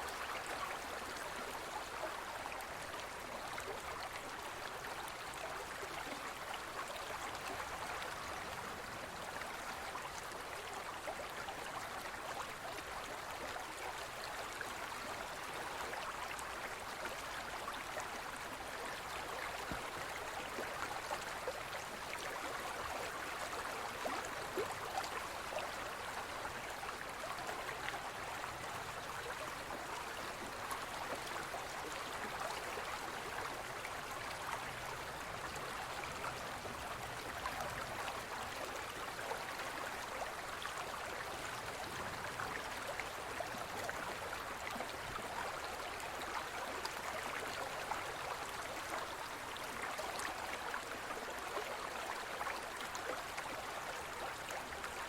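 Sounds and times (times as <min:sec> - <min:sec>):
stream flowing with gurgles: 0:00.0 - 0:55.0.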